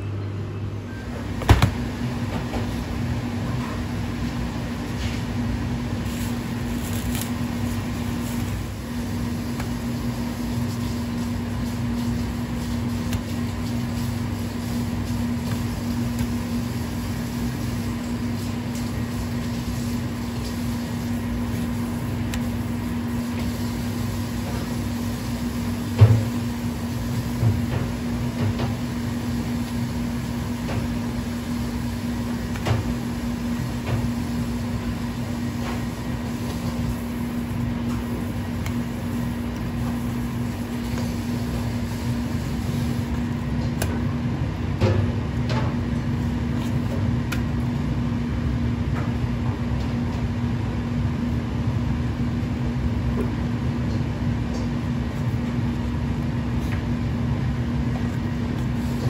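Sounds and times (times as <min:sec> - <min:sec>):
kitchen machinery humming: 0:00.0 - 0:59.0.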